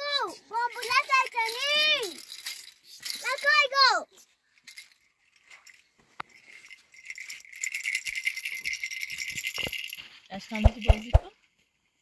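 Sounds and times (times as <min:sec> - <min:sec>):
small hard objects rattling: 0:00.3 - 0:11.2.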